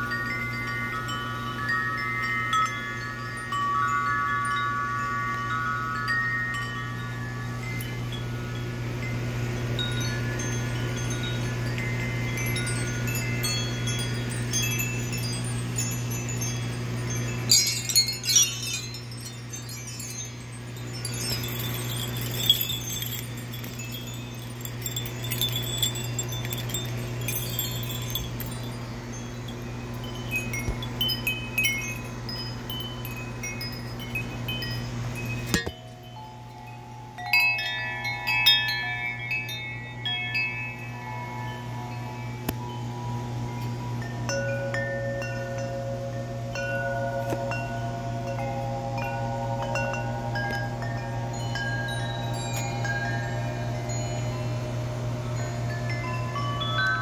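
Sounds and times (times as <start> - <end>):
metal wind chimes ringing: 0.0 - 57.0
steady low hum: 0.0 - 57.0.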